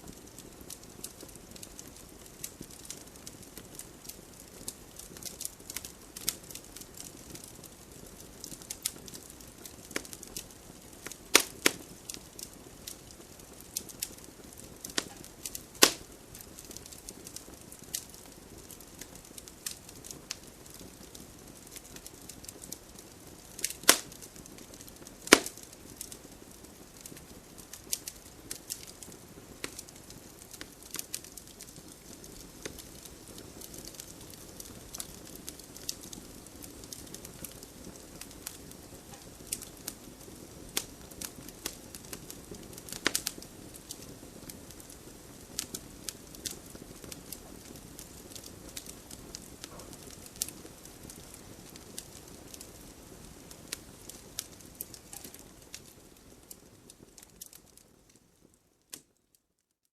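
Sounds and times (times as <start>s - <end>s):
hiss of burning: 0.0s - 58.2s
campfire crackling and popping: 0.0s - 59.3s.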